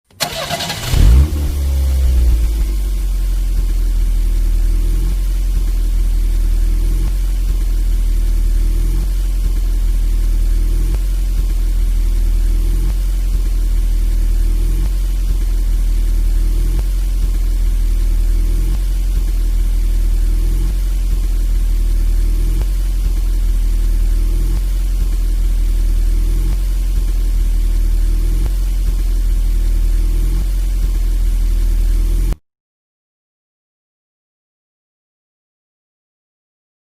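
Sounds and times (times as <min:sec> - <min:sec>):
car engine starting and idling: 0:00.0 - 0:31.0.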